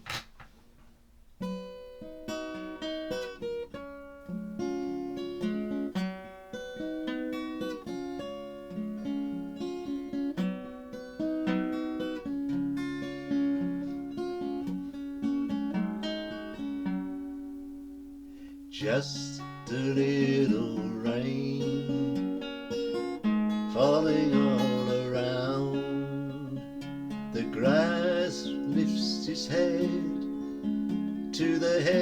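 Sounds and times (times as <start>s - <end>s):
acoustic guitar picking: 0.0s - 32.0s.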